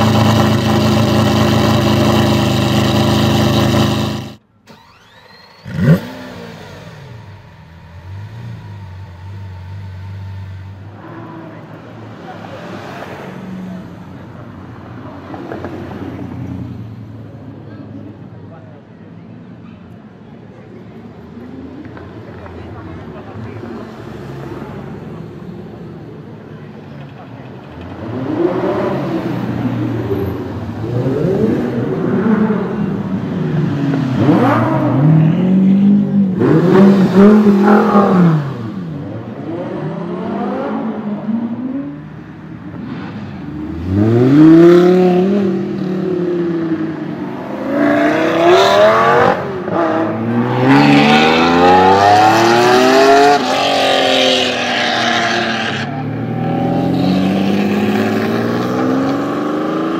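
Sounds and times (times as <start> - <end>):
car engines revving: 0.0 - 18.2, 20.7 - 59.9.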